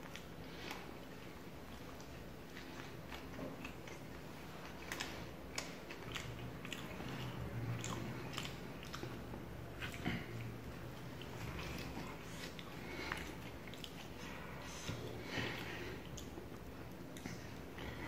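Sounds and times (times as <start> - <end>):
mouth clicks and smacks: 0.0 - 17.9
person chewing food: 0.0 - 18.0.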